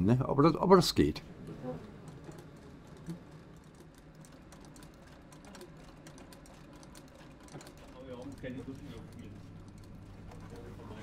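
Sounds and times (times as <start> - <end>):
sewing machine clicking: 2.1 - 10.9.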